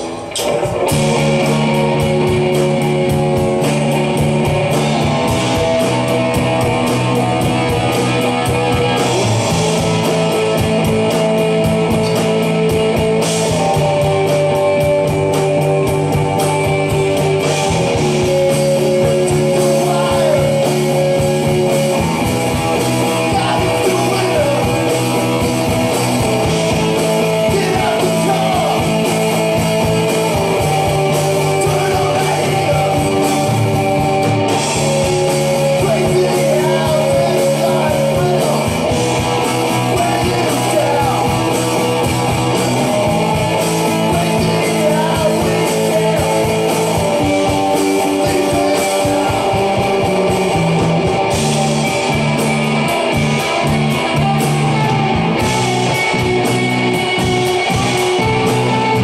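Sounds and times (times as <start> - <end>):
electric guitars playing chords: 0.0 - 59.0
steady drum beat: 0.0 - 59.0.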